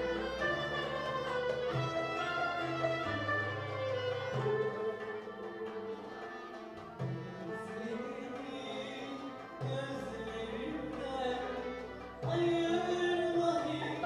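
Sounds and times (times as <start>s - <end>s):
small ensemble playing: 0.0s - 14.0s.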